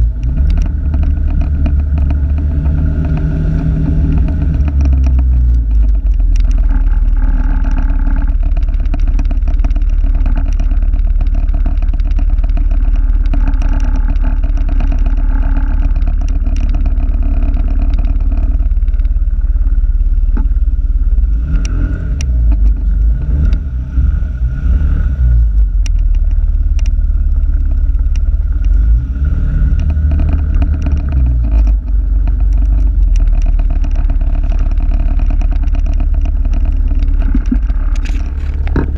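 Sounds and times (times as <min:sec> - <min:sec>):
sharp clicks: 0:00.0 - 0:19.2, 0:25.7 - 0:28.8, 0:29.7 - 0:38.9
fast dense rattle: 0:00.0 - 0:21.4, 0:25.4 - 0:38.9
vehicle engine rumble: 0:00.0 - 0:38.9.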